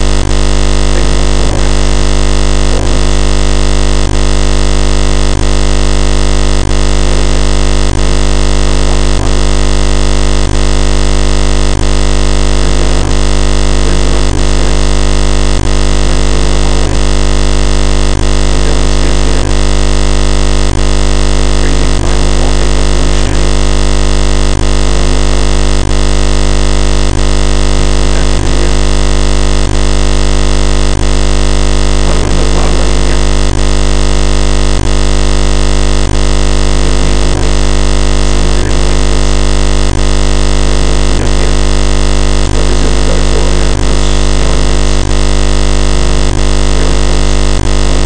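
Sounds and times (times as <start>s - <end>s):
loud steady buzzing: 0.0s - 48.0s.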